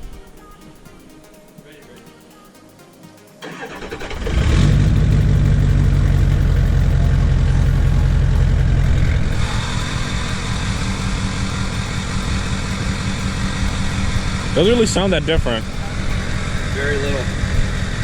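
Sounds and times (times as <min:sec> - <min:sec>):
diesel engine starting and idling: 0:03.4 - 0:18.0.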